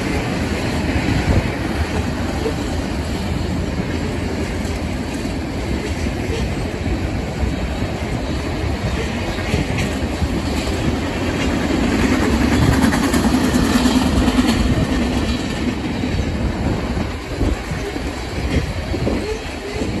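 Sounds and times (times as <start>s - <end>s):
freight train wheels rumbling: 0.0s - 20.0s
wheels clacking over rail joints: 0.0s - 20.0s.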